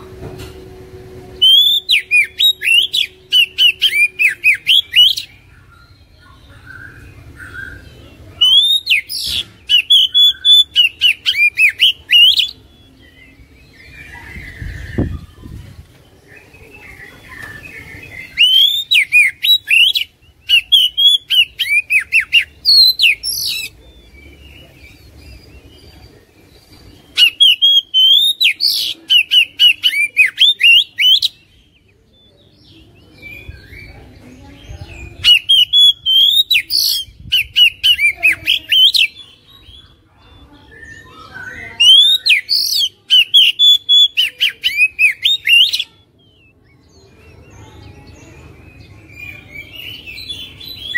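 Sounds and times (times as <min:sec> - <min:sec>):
bird singing whistled notes: 0:01.4 - 0:34.0, 0:34.8 - 0:39.2, 0:40.4 - 0:50.9.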